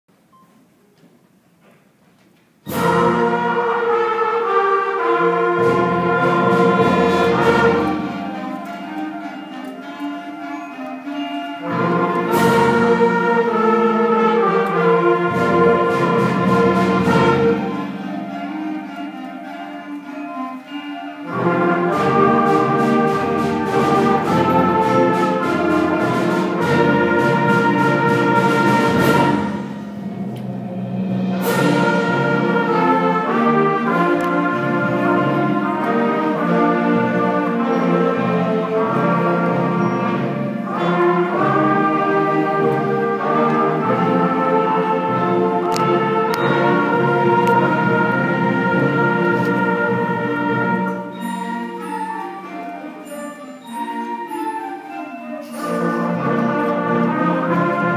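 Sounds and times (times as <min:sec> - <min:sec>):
concert band playing: 0:02.6 - 0:57.9.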